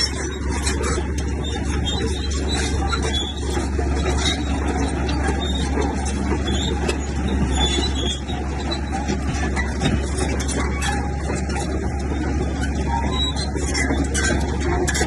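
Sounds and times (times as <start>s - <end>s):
diesel engine running: 0.0s - 15.0s
high metallic squeaks: 0.0s - 15.0s.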